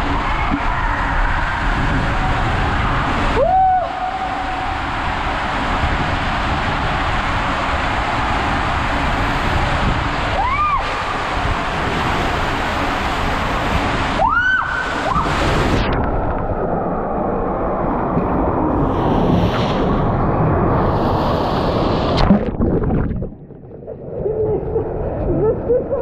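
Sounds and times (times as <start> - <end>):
water rushing down waterslide: 0.0 - 26.0.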